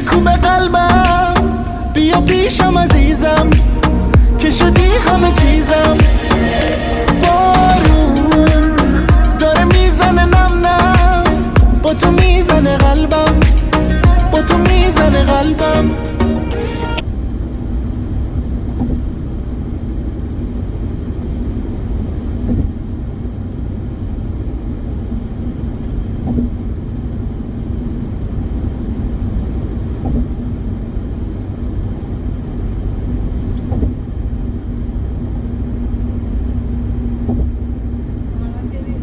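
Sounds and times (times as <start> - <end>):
car driving rumble: 0.0 - 39.0.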